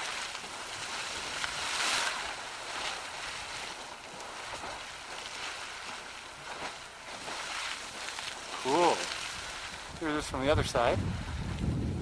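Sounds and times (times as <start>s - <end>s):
geyser water and steam rushing: 0.0s - 12.0s.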